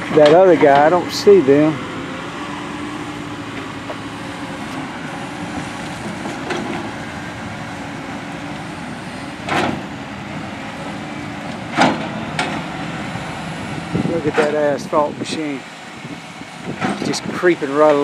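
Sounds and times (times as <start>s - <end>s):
heavy machinery engines running: 0.0s - 18.0s.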